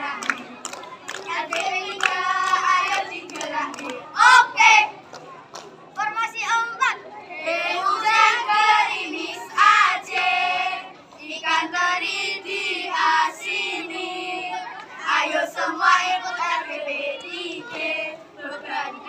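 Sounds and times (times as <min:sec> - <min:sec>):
children singing and chanting: 0:00.0 - 0:19.0.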